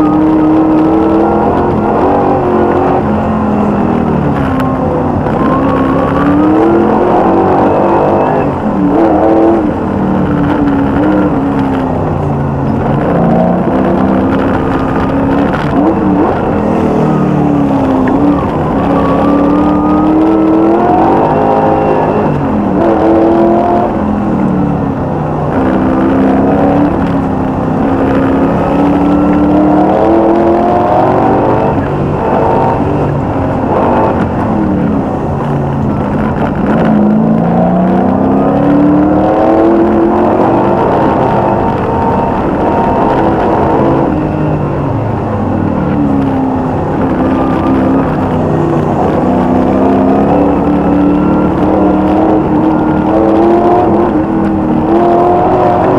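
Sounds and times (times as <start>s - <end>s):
race car engine at full throttle: 0.0s - 55.9s.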